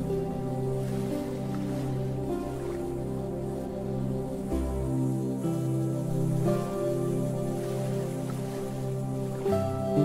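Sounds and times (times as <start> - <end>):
slow relaxation music: 0.0 - 10.0.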